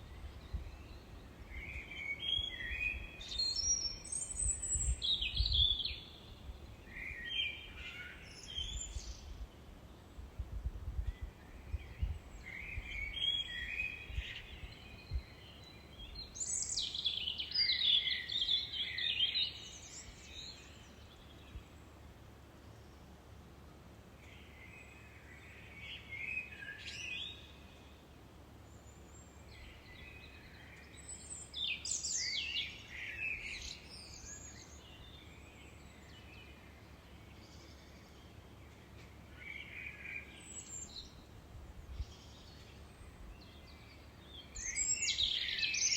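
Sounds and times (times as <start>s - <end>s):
songbird chirping and trilling: 0.0s - 9.4s, 10.9s - 21.6s, 28.8s - 45.9s.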